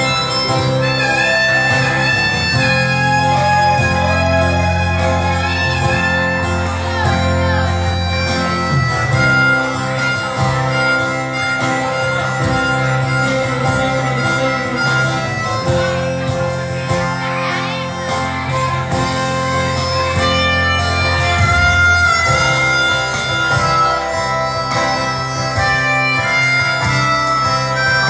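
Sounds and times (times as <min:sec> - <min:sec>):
band backing: 0:00.0 - 0:28.0
harmonica melody: 0:00.0 - 0:28.0.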